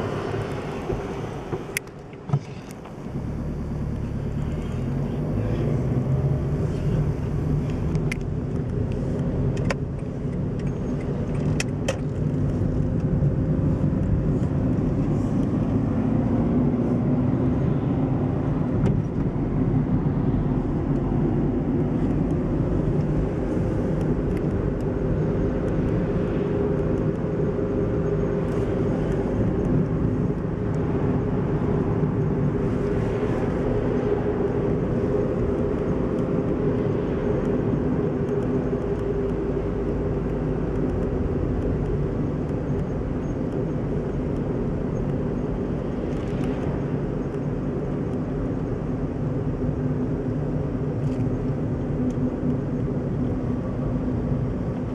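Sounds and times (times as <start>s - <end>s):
car engine and tyre hum: 0.0s - 54.9s.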